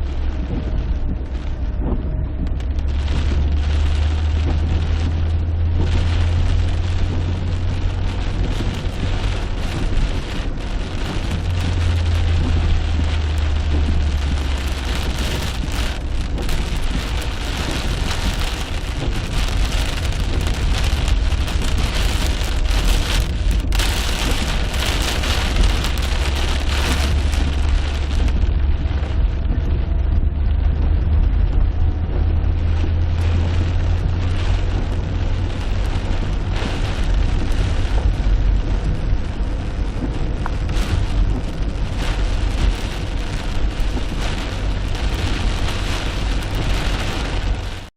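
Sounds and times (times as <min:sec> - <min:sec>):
low thunder rumble: 0:00.0 - 0:47.9.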